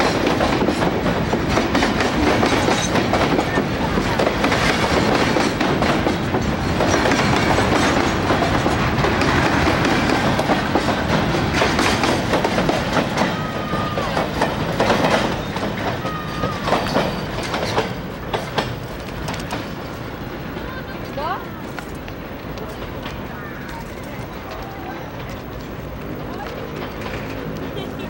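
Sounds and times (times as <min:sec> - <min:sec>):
train wheels clacking over rail joints: 0:00.0 - 0:28.0.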